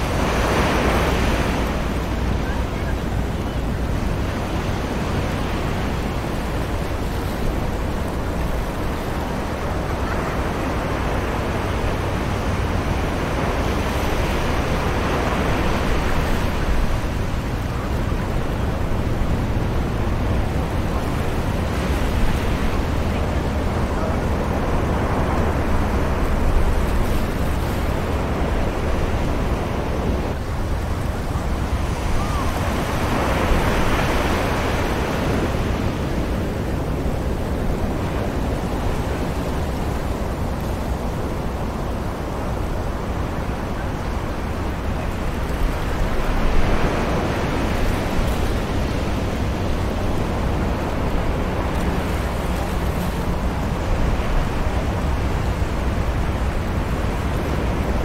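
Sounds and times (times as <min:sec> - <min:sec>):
distant ocean waves: 0:00.0 - 0:58.0.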